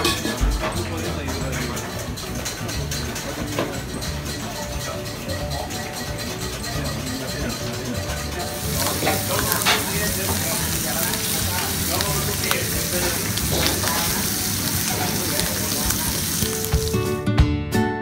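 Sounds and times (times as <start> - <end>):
music: 0.0 - 18.0
bacon sizzling on a grill: 1.0 - 17.2.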